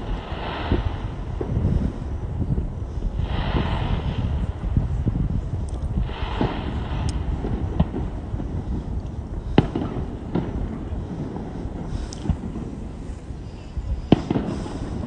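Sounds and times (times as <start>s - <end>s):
distant fireworks bangs: 0.0s - 15.0s
wind on microphone: 0.0s - 15.0s.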